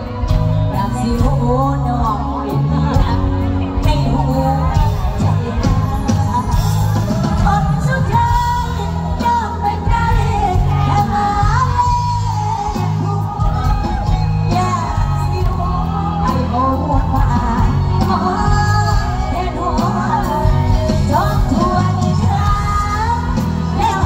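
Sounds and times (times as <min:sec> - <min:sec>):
bass and drum beat: 0:00.0 - 0:24.0.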